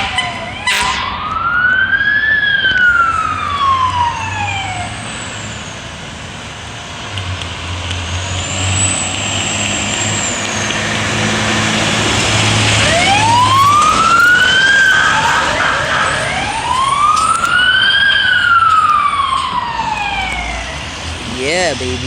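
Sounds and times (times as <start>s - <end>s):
higher siren wail: 0.0s - 6.2s, 8.7s - 21.9s
fire truck siren wailing: 0.0s - 22.0s
heavy engine hum: 0.0s - 22.0s.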